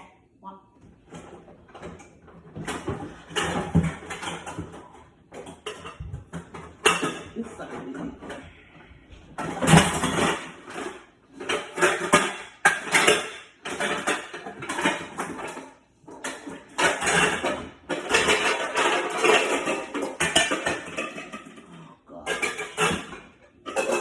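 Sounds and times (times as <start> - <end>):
pots and pans clattering: 1.0 - 24.0.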